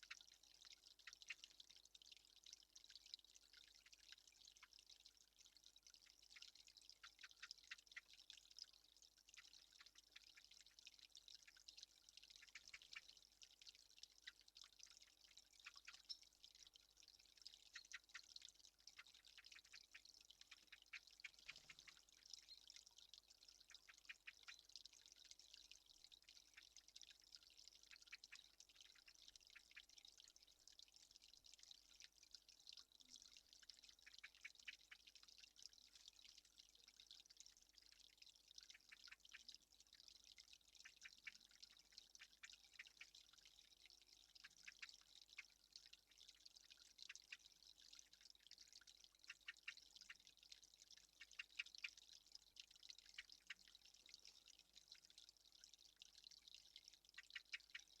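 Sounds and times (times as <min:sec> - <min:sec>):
faint irregular clicks: 0:00.0 - 0:58.0.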